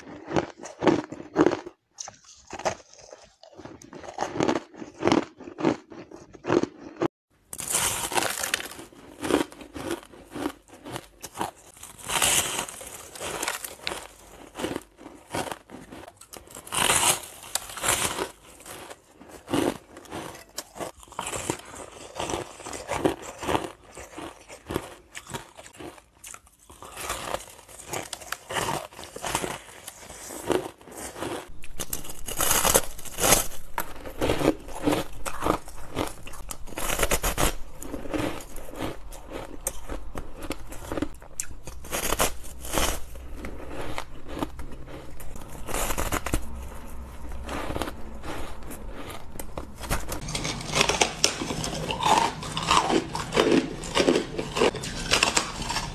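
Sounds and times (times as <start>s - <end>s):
chewing crunchy ice: 0.0s - 55.9s.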